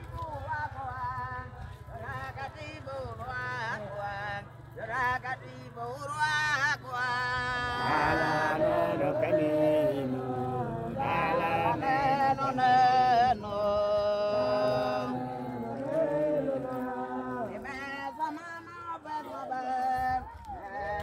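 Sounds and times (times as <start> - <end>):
group singing chant-like song: 0.1 - 21.0.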